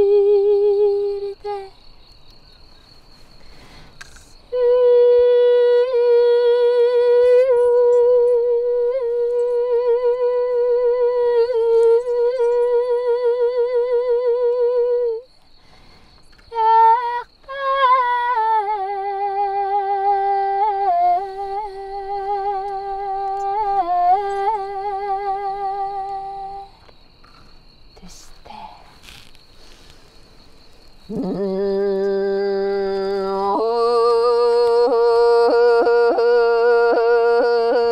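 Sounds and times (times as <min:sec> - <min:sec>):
woman singing wordless notes: 0:00.0 - 0:01.8, 0:04.4 - 0:15.4, 0:16.5 - 0:26.8, 0:28.0 - 0:29.0, 0:31.0 - 0:37.9.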